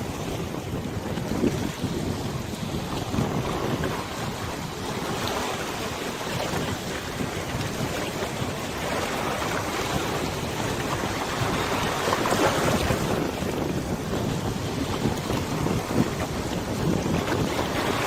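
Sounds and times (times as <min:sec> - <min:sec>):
wind on microphone: 0:00.0 - 0:18.0
river water rushing: 0:02.3 - 0:18.0.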